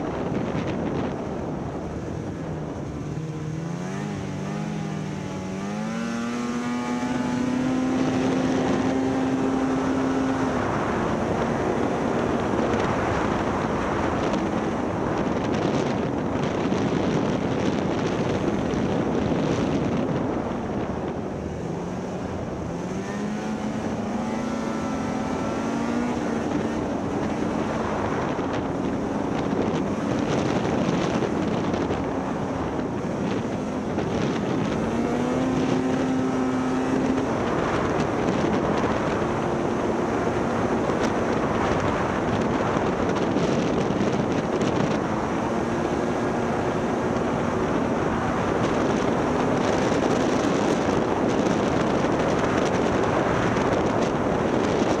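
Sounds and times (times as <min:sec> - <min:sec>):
snowmobile engine revving: 0:01.0 - 0:16.0, 0:18.1 - 0:55.0.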